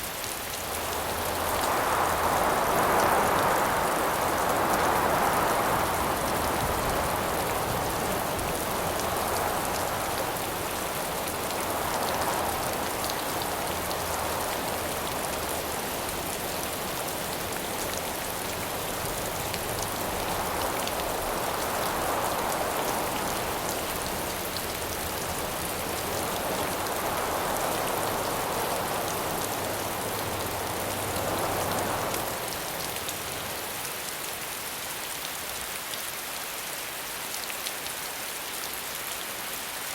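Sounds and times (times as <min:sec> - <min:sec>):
wind gusts: 0:00.0 - 0:35.6
steady rain falling: 0:00.0 - 0:39.9.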